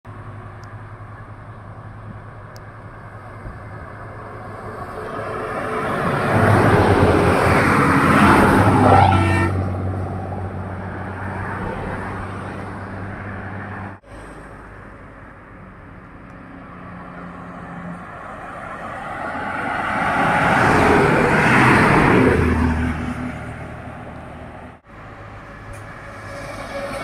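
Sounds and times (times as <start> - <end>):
coach bus passing: 0.1 - 27.0.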